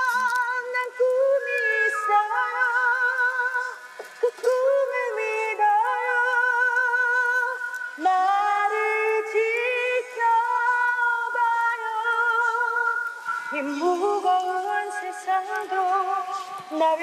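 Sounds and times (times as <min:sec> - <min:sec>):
woman singing a slow ballad: 0:00.0 - 0:17.0.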